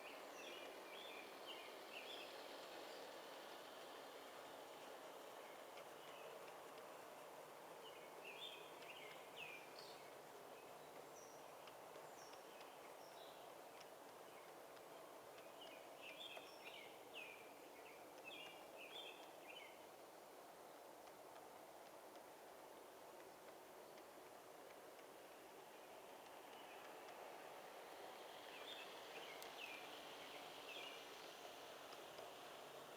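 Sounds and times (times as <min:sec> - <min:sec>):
faint outdoor background noise: 0:00.0 - 0:32.9.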